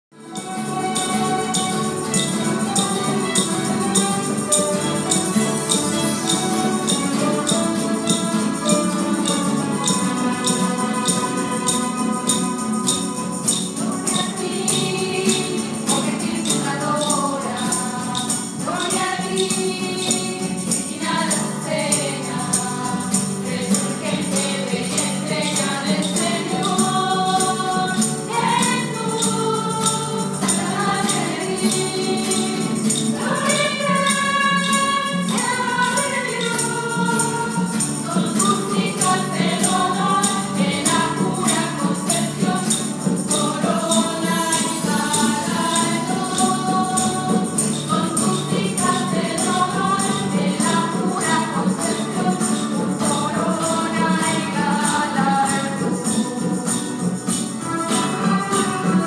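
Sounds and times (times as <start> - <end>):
tambourine jingling: 0.1 - 59.0
group singing a hymn: 0.3 - 59.0.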